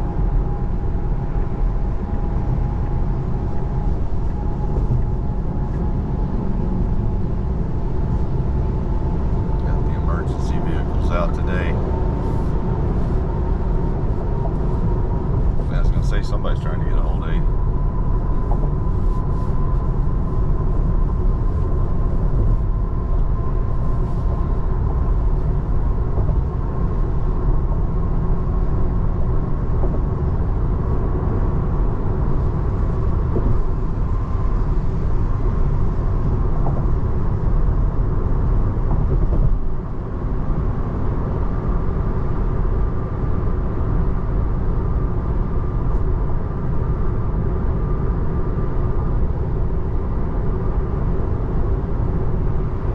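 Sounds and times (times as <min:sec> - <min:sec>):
car cabin road rumble: 0:00.0 - 0:52.9.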